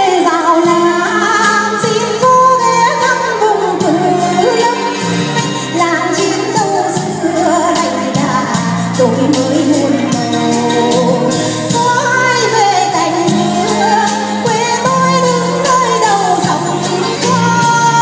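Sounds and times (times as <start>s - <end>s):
backing track with bass and beat: 0.0s - 18.0s
woman singing with vibrato: 0.0s - 18.0s.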